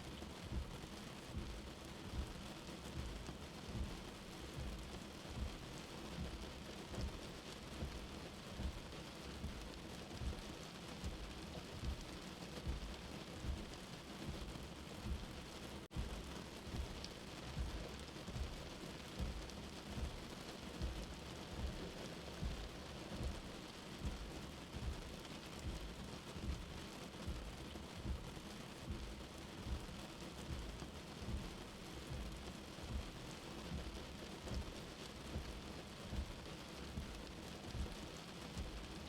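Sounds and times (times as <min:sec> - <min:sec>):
steady rain: 0:00.0 - 0:39.0
soft low heartbeat thumping: 0:00.1 - 0:39.0.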